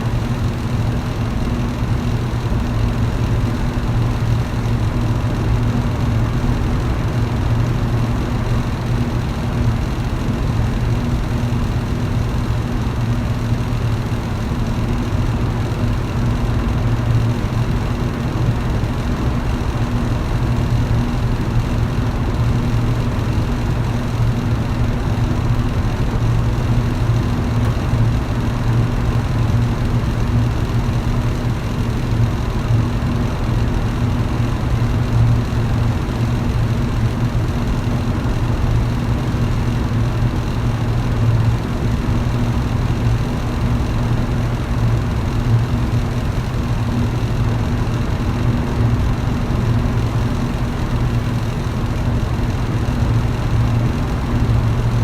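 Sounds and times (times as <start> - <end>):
fan motor hum: 0.0 - 55.0.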